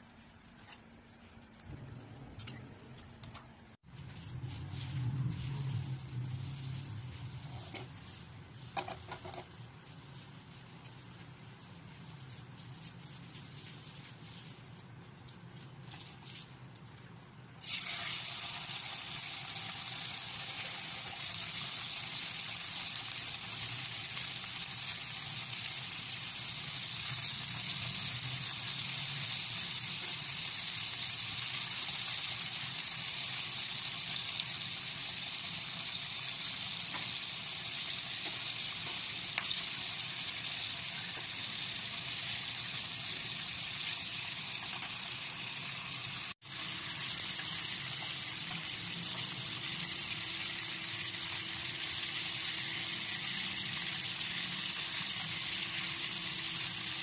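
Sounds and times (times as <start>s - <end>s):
pork chops sizzling in oil: 3.8s - 16.6s, 17.6s - 57.0s.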